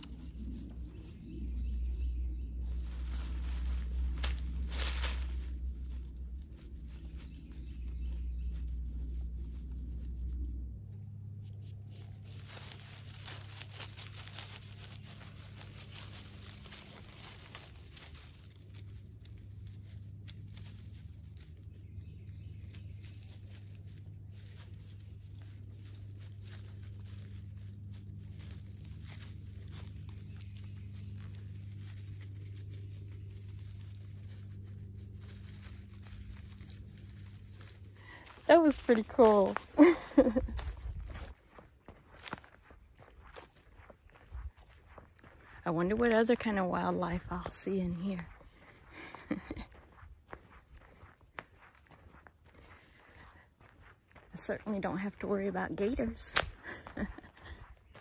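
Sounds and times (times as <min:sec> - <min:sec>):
low rumble: 0:00.0 - 0:58.0
rustling in dry leaves: 0:00.0 - 0:58.0.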